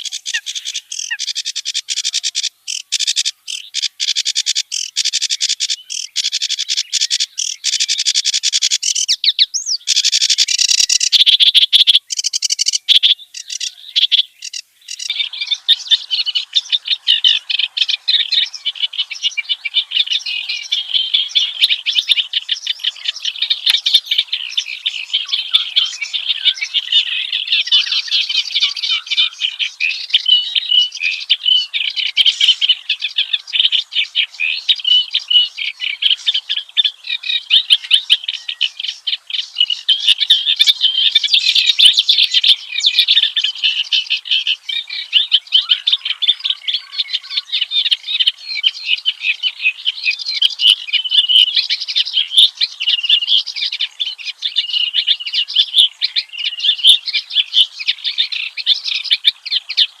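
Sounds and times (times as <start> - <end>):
reed warbler singing: 0.0 - 60.0.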